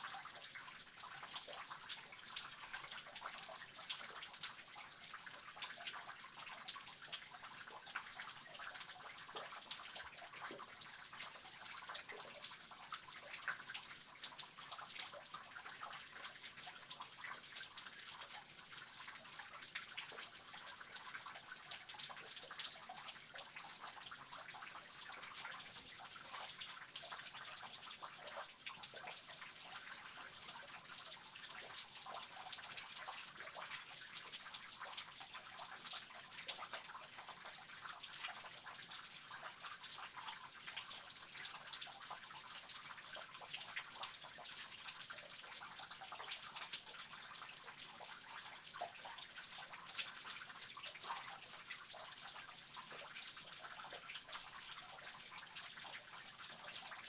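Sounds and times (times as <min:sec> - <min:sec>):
faint water trickle: 0:00.0 - 0:57.0
water dripping in cave: 0:00.0 - 0:57.0.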